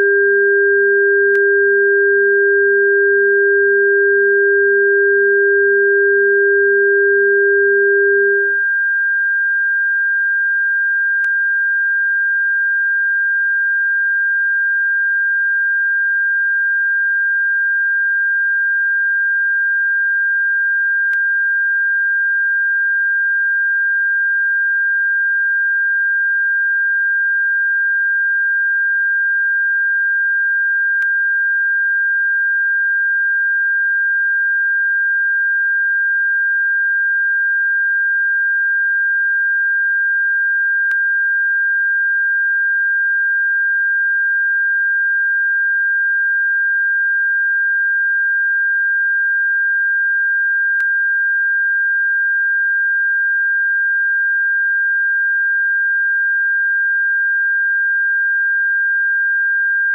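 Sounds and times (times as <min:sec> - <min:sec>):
high-pitched sine tone: 0:00.0 - 0:59.9
lower sine tone: 0:00.0 - 0:59.9.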